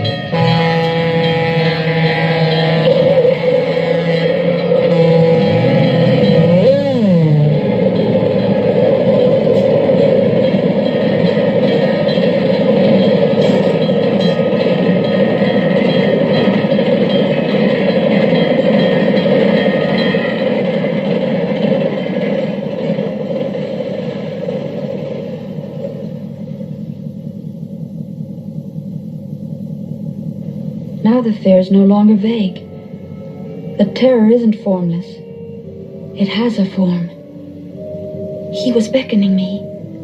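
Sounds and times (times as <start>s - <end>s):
train running past: 0.0s - 40.0s.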